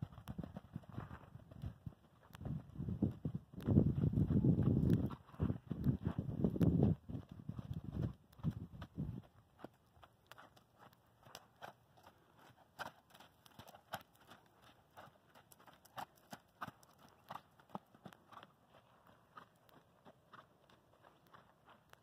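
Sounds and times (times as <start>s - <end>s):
horse hoofbeats on sand: 0.0s - 22.0s.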